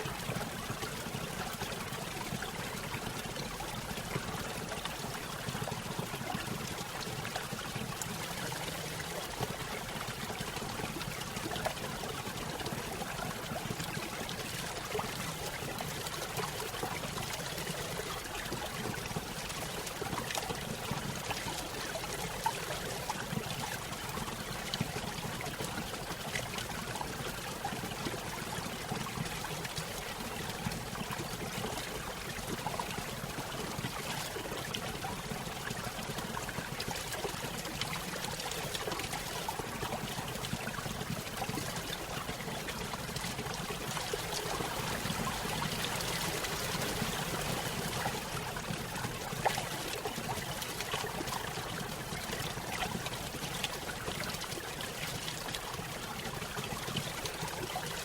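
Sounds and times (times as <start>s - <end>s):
stream trickling over small waterfall: 0.0s - 58.0s.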